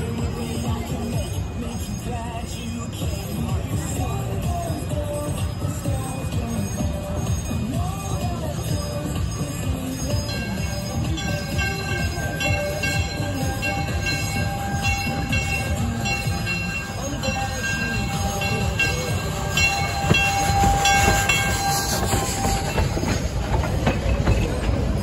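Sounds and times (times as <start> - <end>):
locomotive bell ringing: 0.0 - 25.0
train rumble: 0.0 - 25.0.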